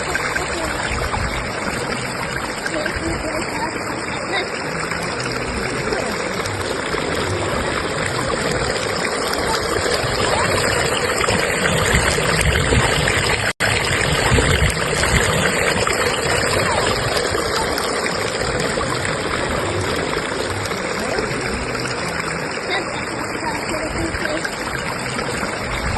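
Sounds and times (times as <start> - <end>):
stream water rushing: 0.0 - 25.9.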